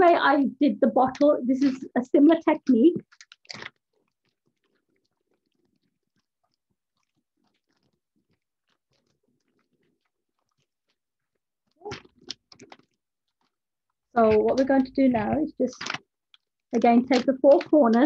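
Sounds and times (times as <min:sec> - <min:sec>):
cellophane wrap crinkling: 0:01.0 - 0:18.0.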